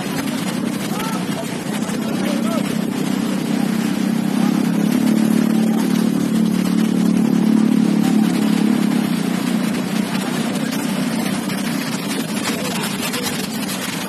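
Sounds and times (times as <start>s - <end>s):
slow road traffic: 0.0s - 14.0s
truck engine running: 0.0s - 14.0s.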